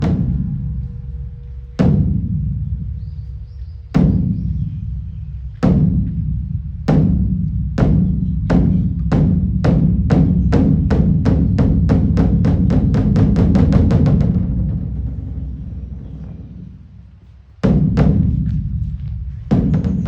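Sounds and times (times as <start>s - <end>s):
deep booming drum strokes: 0.0s - 20.0s.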